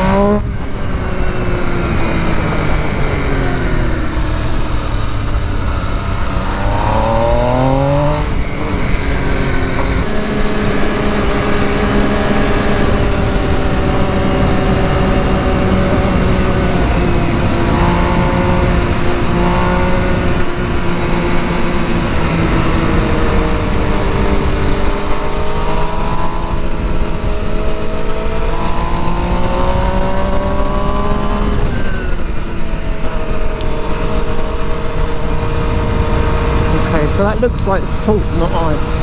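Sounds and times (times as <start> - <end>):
motorcycle engine revving: 0.0 - 39.0
wind rush on microphone: 0.0 - 39.0.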